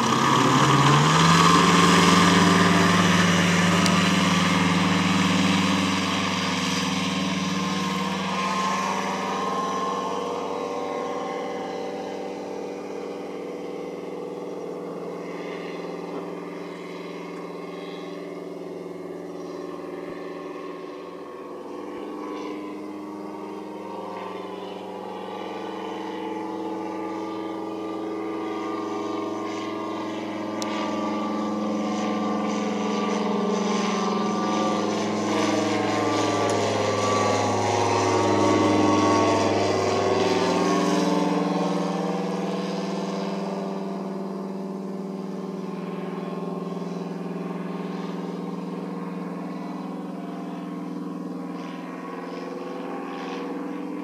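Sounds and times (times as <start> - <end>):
biplane engine flying past: 0.0 - 54.0.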